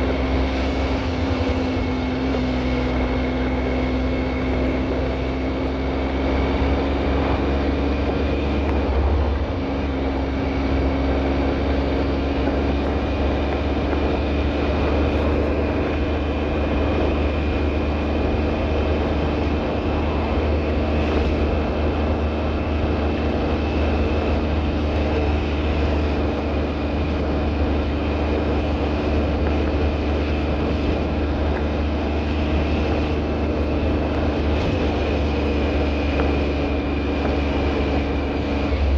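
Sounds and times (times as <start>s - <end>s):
mechanical drone with whine: 0.0s - 38.9s.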